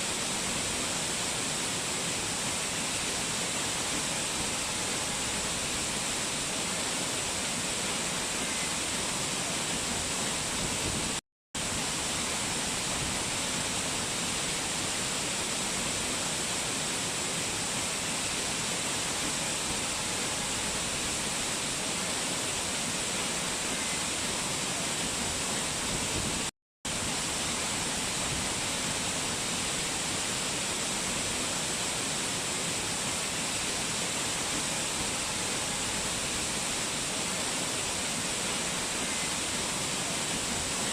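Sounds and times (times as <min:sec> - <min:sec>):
fast-flowing water rushing: 0:00.0 - 0:40.9.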